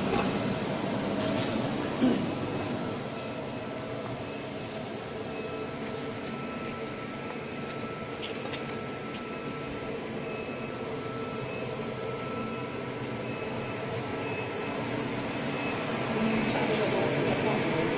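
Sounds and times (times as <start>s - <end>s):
thin high whine: 0.0s - 17.9s.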